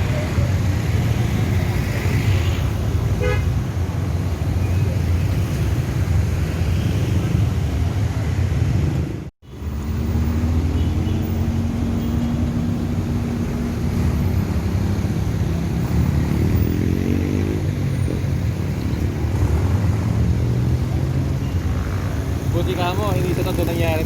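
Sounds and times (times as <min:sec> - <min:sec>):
road noise: 0:00.0 - 0:24.0
vehicle engine: 0:03.8 - 0:24.0.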